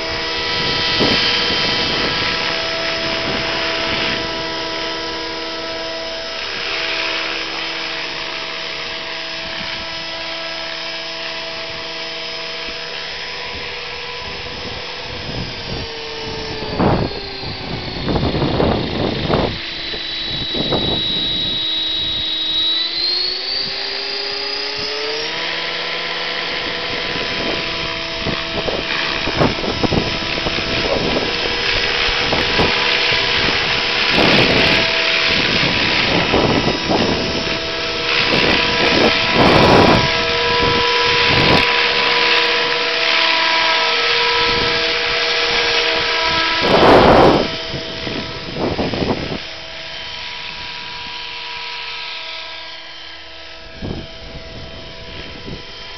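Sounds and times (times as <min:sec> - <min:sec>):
wind buffeting microphone: 0:00.0 - 0:51.8, 0:53.5 - 0:55.9
helicopter rotor: 0:00.0 - 0:55.9
model helicopter motor whining: 0:00.0 - 0:55.9.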